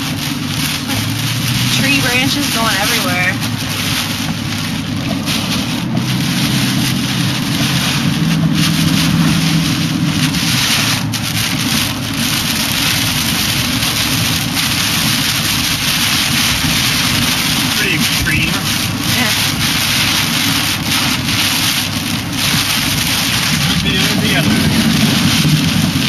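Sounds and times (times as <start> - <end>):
engine and road rumble: 0.0 - 26.0
heavy rain on car windshield: 0.0 - 26.0.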